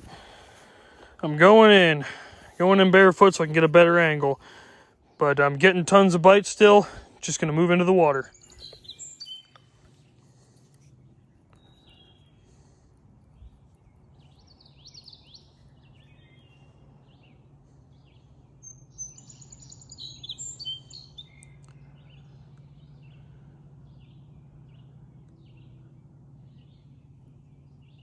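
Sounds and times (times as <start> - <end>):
songbirds chirping and trilling: 0.0 - 28.0
steady low hum: 0.0 - 28.0.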